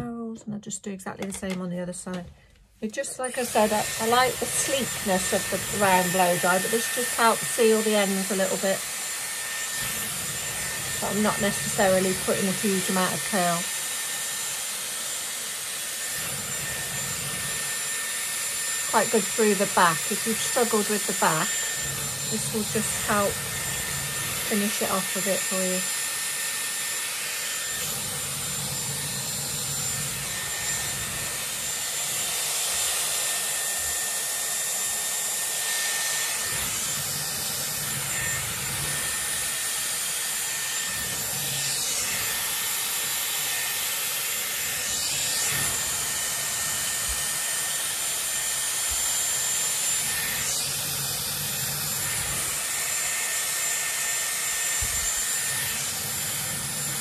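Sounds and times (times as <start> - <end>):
hair styler blowing air: 1.2 - 57.0.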